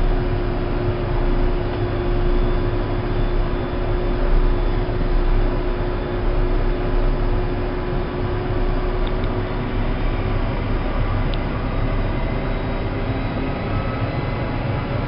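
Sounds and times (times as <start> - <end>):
road and cab noise: 0.0 - 15.0
tractor engine from inside cab: 0.0 - 15.0.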